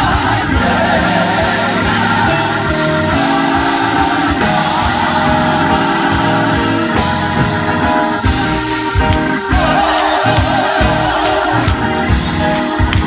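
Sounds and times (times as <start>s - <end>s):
gospel choir singing: 0.0s - 13.0s
live band playing: 0.0s - 13.0s
steady drum beat: 0.0s - 13.0s.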